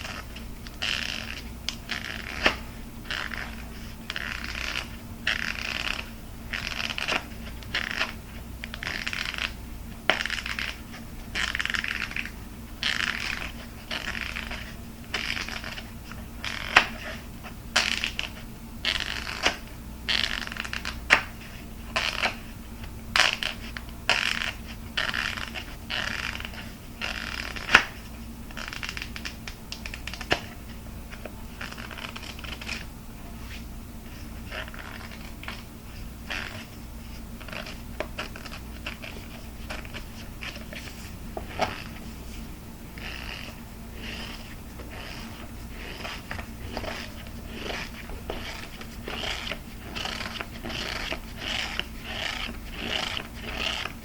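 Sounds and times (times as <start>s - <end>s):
scratching and rubbing hard plastic: 0.0s - 17.2s, 17.8s - 22.4s, 23.2s - 54.0s.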